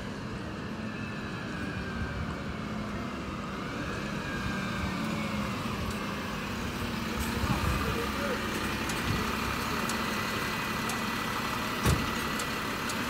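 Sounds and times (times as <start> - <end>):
diesel lorry engine: 0.0 - 13.0
faint engine whine: 0.0 - 13.0.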